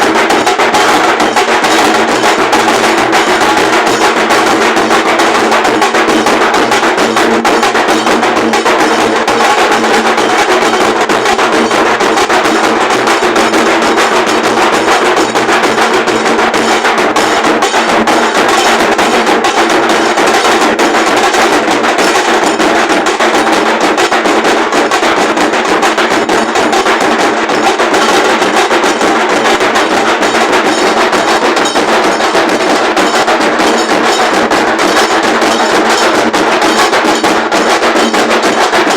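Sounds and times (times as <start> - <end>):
large drums playing fast beat: 0.0 - 38.9.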